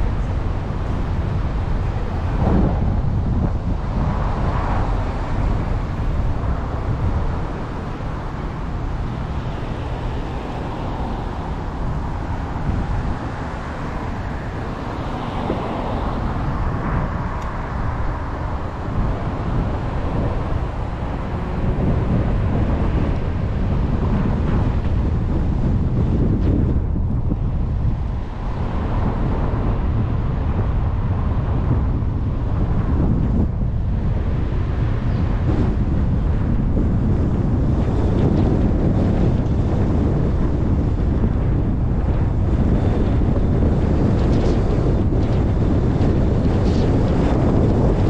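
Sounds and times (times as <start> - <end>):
car road and tyre noise: 0.0 - 48.0.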